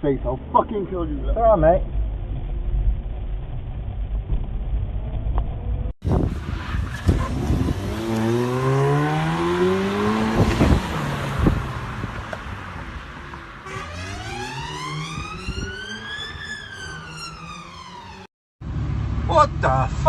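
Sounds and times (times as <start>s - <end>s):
road noise: 0.0s - 20.0s
car engine accelerating: 0.2s - 20.0s.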